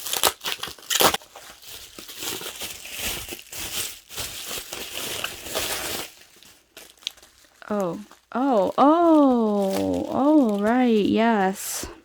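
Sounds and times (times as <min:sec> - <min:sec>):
packaging crinkling: 0:00.0 - 0:11.6.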